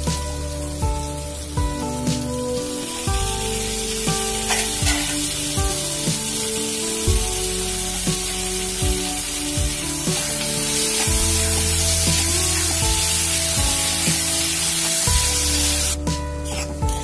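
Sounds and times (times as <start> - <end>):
background music with held notes: 0.0 - 17.0
vegetables sizzling in oil: 0.0 - 17.0.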